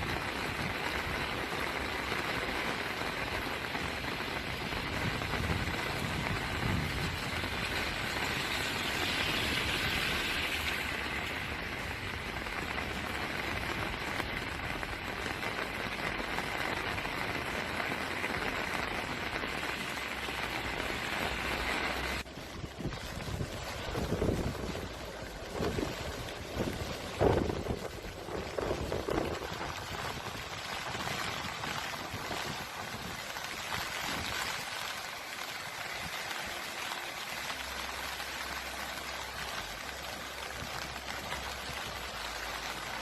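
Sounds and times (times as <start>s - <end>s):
heavy rain hissing: 0.0s - 43.0s.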